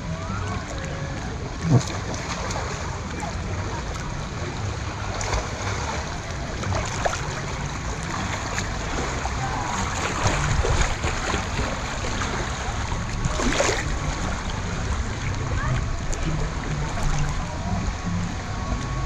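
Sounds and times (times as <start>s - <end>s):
water sloshing and lapping: 0.0s - 19.0s
water splashes: 0.0s - 19.0s.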